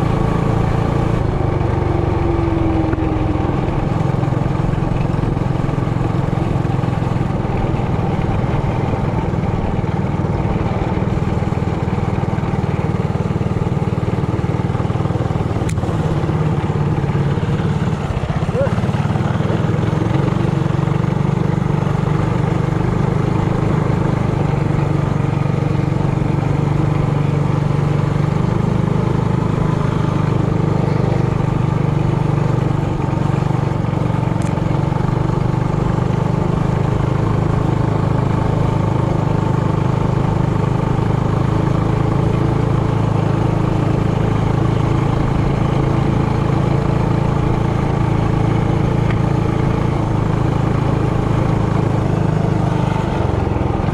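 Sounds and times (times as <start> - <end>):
mini bike engine running: 0.0 - 53.9.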